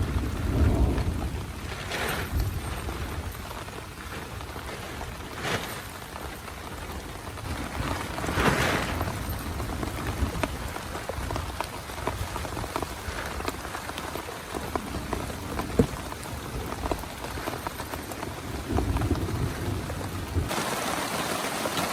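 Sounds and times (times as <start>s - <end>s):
heavy rain on a tent: 0.0s - 21.9s.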